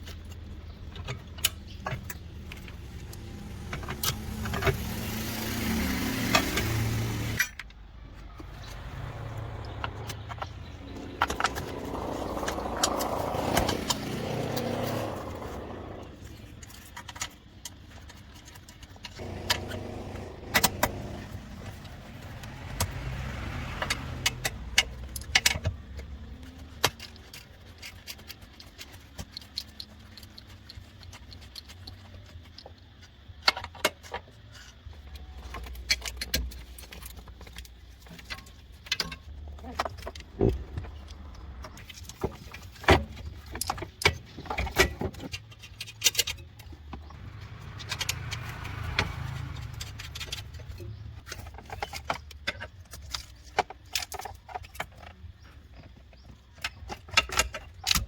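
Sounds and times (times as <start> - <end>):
rustling and handling noise: 0.0 - 23.1, 24.5 - 58.0.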